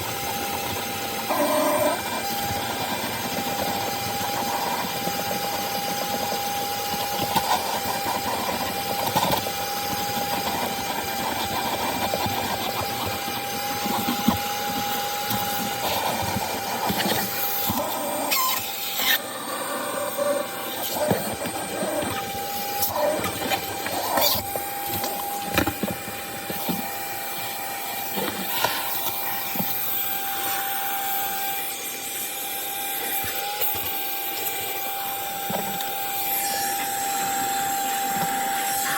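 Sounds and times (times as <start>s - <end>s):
shop vacuum whining: 0.0s - 38.9s.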